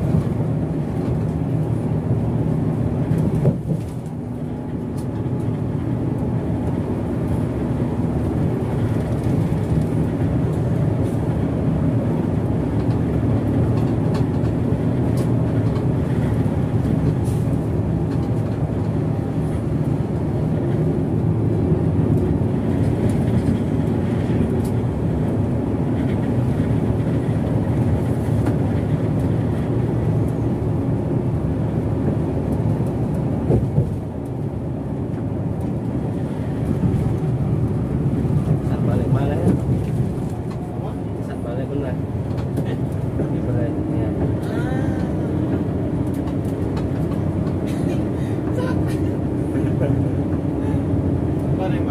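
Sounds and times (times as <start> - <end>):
bus diesel engine drone: 0.0 - 51.9.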